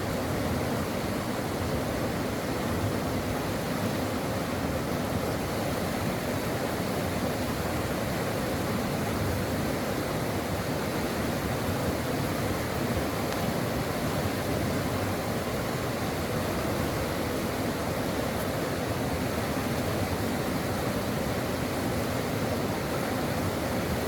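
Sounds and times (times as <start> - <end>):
brook water rushing: 0.0 - 24.0.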